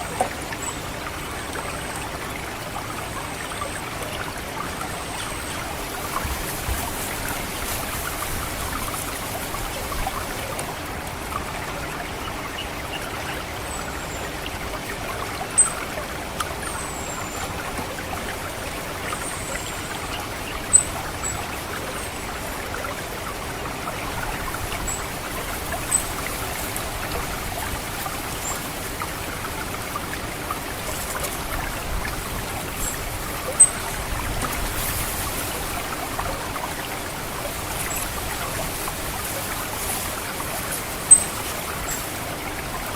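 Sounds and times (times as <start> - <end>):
trickling water: 0.0 - 42.9.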